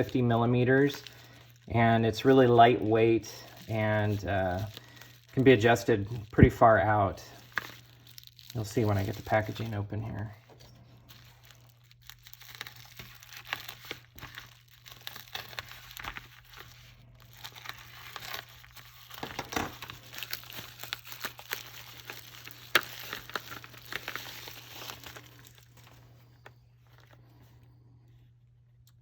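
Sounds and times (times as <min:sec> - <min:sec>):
packaging crinkling and tearing: 0:00.0 - 0:27.8.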